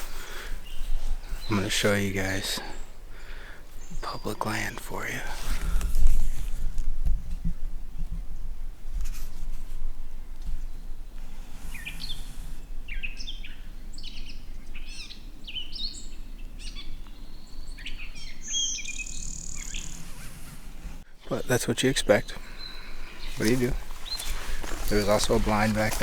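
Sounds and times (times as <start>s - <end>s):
birds chirping and whistling: 0.0s - 6.1s, 10.6s - 26.0s.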